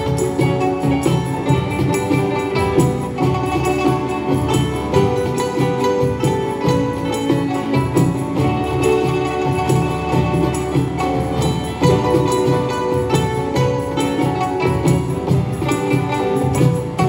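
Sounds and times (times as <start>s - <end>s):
hand drums beating: 0.0s - 17.0s
plucked string notes: 0.0s - 17.0s.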